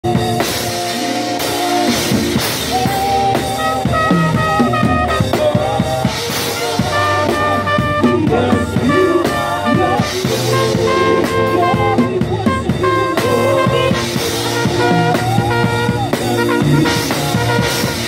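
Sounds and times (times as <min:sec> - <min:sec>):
bass line: 0:00.0 - 0:18.0
drum kit: 0:00.0 - 0:18.0
trumpet melody: 0:00.0 - 0:18.0.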